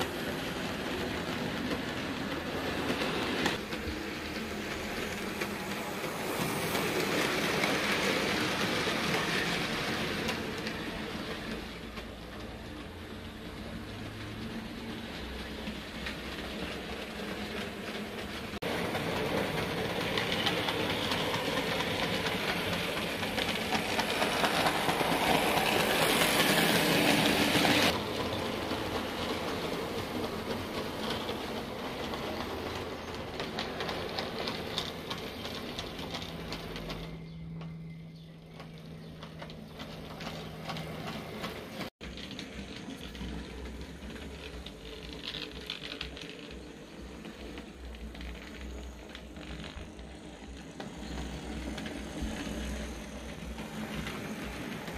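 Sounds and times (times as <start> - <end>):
model train whirring and rattling: 0.0 - 54.9.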